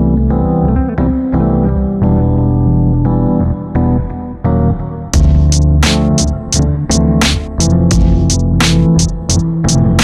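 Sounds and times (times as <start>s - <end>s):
background music held chords: 0.0s - 10.0s.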